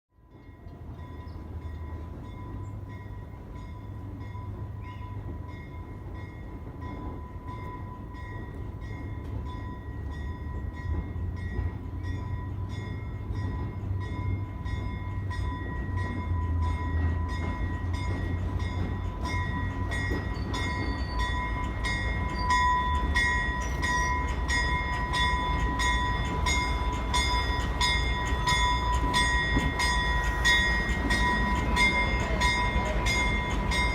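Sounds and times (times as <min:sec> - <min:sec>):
diesel locomotive engine rumble: 0:00.2 - 0:33.9.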